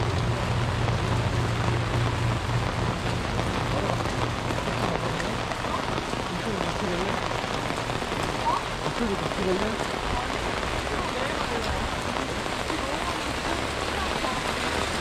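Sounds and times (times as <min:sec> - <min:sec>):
rain pattering on street: 0:00.0 - 0:15.0.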